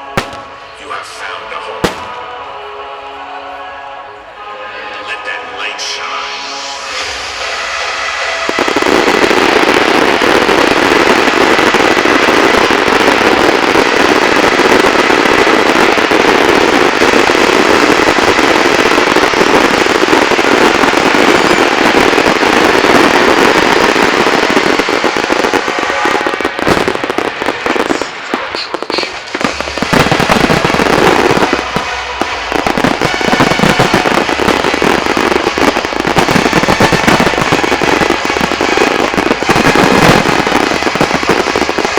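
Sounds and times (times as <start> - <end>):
fireworks bursting and crackling: 0.0 - 2.8, 5.6 - 41.9.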